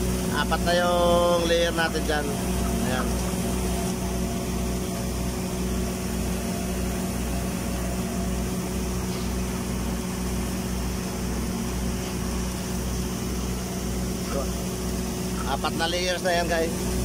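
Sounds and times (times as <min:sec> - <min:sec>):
welding machine humming: 0:00.0 - 0:17.0.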